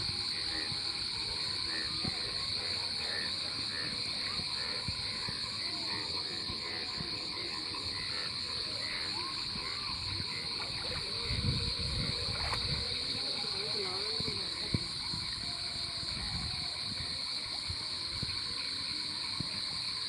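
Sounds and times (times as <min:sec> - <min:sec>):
frogs calling: 0:00.0 - 0:20.0
insect trill: 0:00.0 - 0:20.0.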